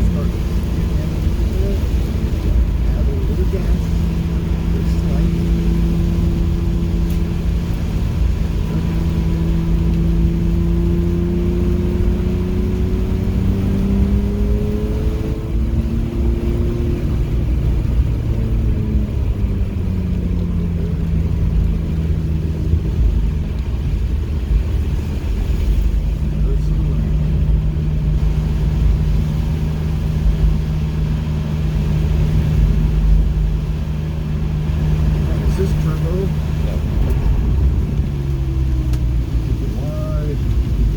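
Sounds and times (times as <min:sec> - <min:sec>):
car engine accelerating: 0:00.0 - 0:40.9
road and wind noise: 0:00.0 - 0:40.9.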